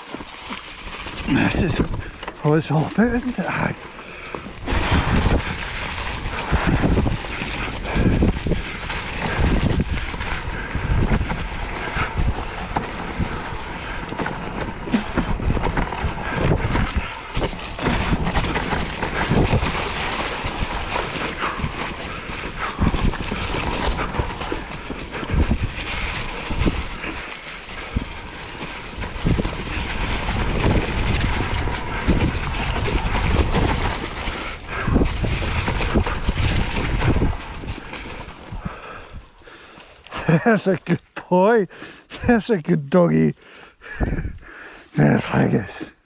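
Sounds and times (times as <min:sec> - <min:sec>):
bike rattling and knocking: 0:00.0 - 0:41.0
tyres rolling over stones: 0:00.0 - 0:41.1.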